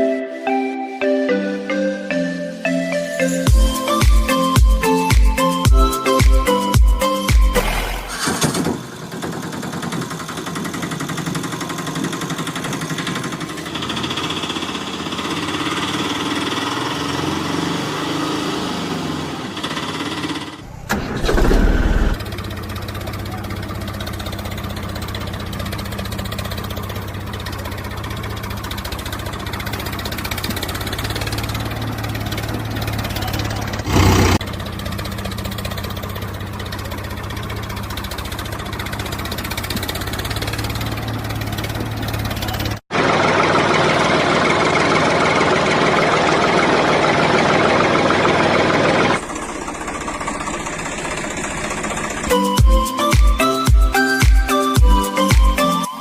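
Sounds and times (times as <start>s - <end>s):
engine idling: 3.5s - 56.0s
dense engine-like sound: 6.6s - 54.0s.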